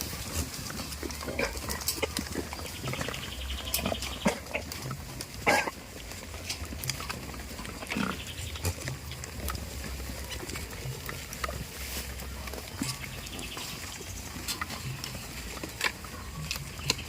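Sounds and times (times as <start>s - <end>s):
goats making low sounds: 0.0s - 17.0s.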